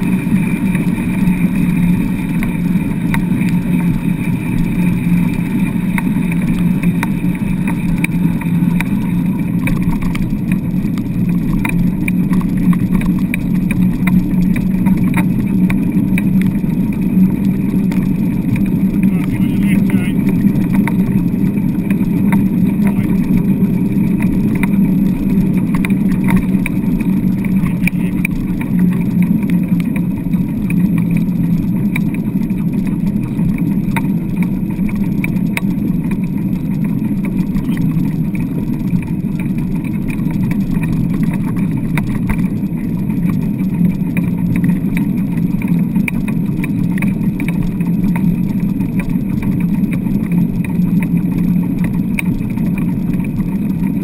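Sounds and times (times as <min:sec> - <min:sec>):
wheeled rig rumbling over sand: 0:00.0 - 0:54.0.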